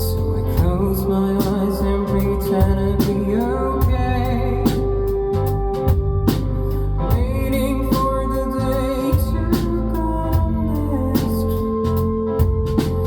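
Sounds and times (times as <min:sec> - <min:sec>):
band playing live: 0:00.0 - 0:13.0
drum kit beat: 0:00.0 - 0:13.0
keyboard chords: 0:00.0 - 0:13.0.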